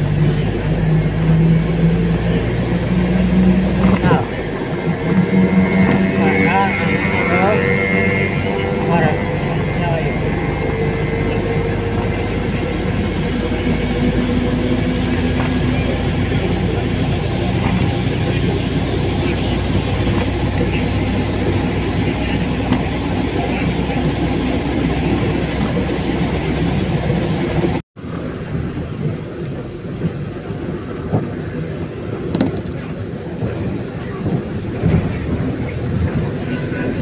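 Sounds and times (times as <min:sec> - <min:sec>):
bus engine and road noise: 0:00.0 - 0:37.0.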